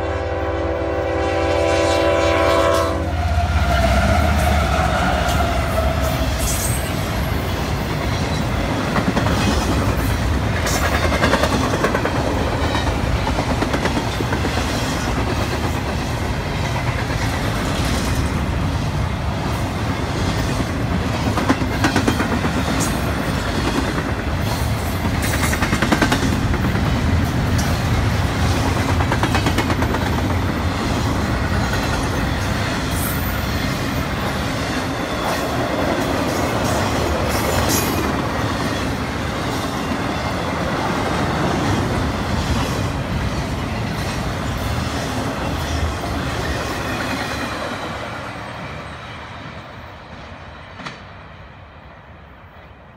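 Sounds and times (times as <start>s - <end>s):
freight train wheels rumbling on rails: 0.0s - 52.9s.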